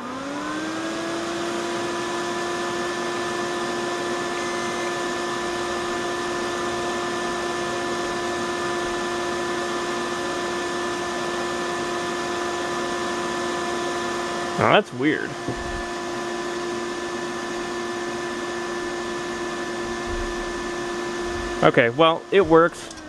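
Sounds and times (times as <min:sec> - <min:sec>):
computer cooling fans whirring: 0:00.0 - 0:23.0.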